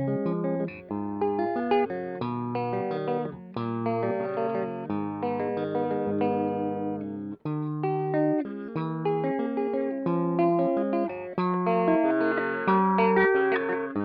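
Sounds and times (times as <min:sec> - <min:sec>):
overdriven electric guitar loop: 0:00.0 - 0:14.0.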